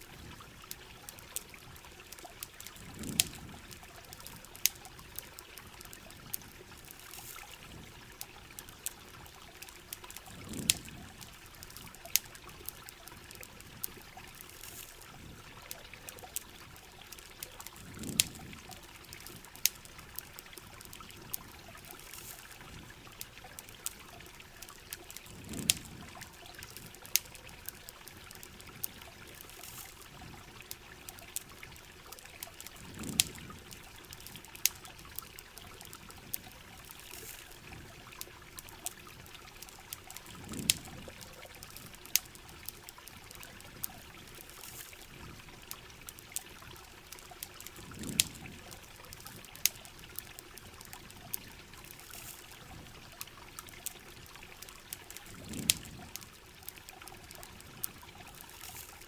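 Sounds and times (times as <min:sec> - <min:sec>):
campfire crackling and popping: 0:00.0 - 0:59.0
trickling water: 0:00.0 - 0:59.0.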